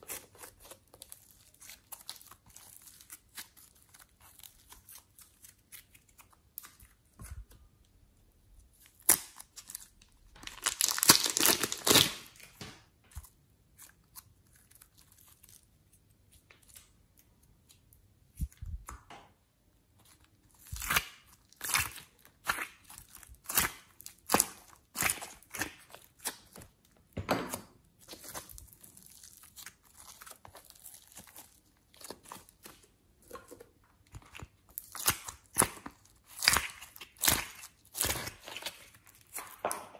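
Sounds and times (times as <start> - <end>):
sticky slime crackling: 0.0 - 7.7, 8.6 - 19.1, 19.9 - 26.9, 27.9 - 39.7.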